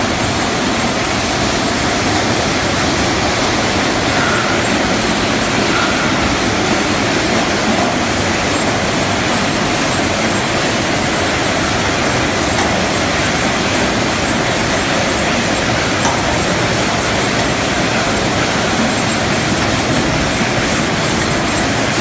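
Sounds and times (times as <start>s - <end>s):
processing line machinery din: 0.0s - 22.0s.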